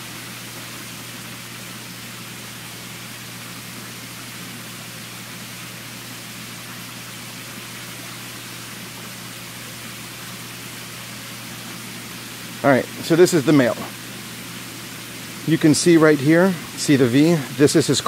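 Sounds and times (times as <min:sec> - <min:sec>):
pump hum: 0:00.0 - 0:18.0
water hissing: 0:00.0 - 0:18.0.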